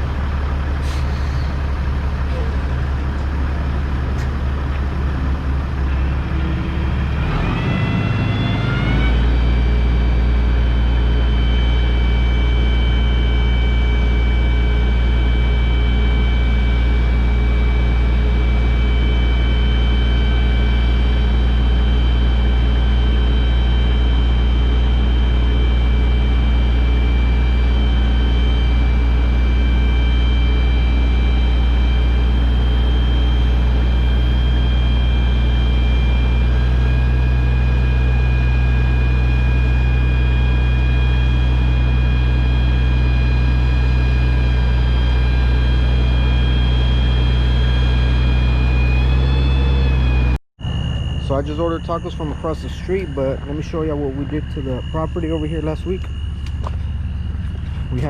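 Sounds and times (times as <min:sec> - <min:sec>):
diesel engine revving with whine: 0:00.0 - 0:58.0.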